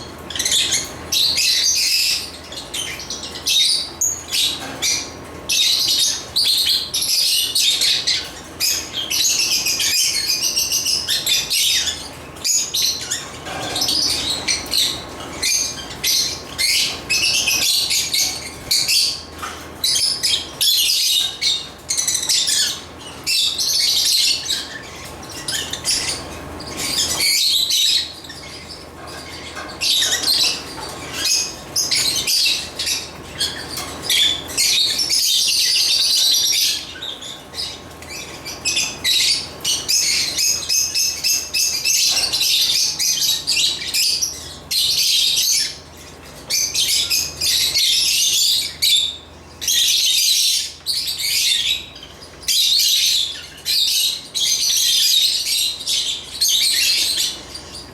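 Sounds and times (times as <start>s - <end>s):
birds chirping and squawking: 0.0s - 57.9s.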